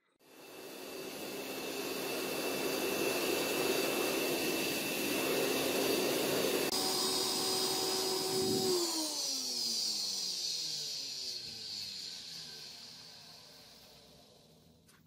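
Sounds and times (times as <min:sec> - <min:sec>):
furnace rushing with high whine: 0:00.2 - 0:14.9.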